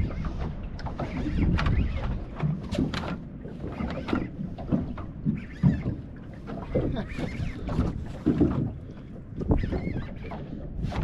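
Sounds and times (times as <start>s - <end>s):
water around boat: 0.0s - 11.0s
wind rumbling on microphone: 0.0s - 11.0s.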